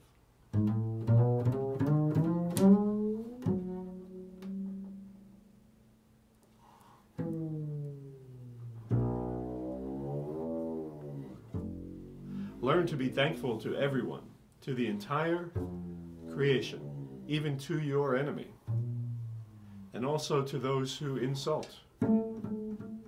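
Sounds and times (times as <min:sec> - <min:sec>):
double bass plucked notes: 0:00.5 - 0:06.3, 0:07.0 - 0:23.0.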